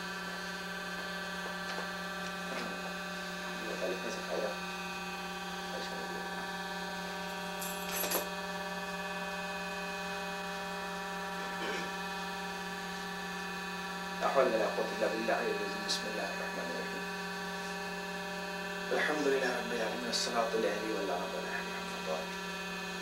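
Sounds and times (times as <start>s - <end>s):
buzzy electrical hum: 0.0s - 23.0s.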